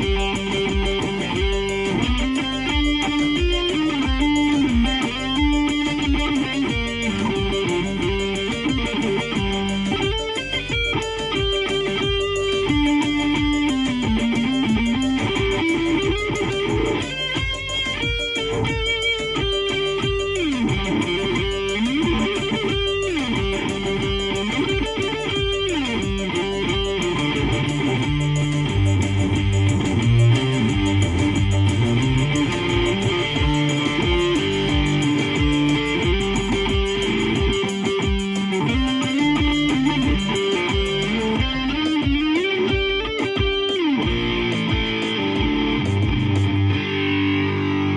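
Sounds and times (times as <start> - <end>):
electric guitar fast repeated notes: 0.0 - 47.9.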